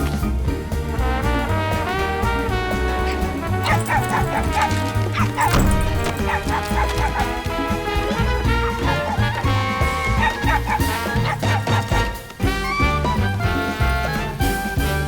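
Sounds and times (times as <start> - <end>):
film music with bass line: 0.0 - 15.0
dog barking and yipping: 2.2 - 15.0.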